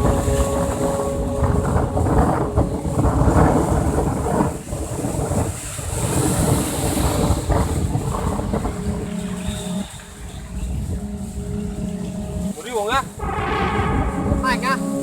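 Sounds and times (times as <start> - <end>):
water surging and splashing: 0.0 - 15.0
wind buffeting microphone: 0.0 - 15.0.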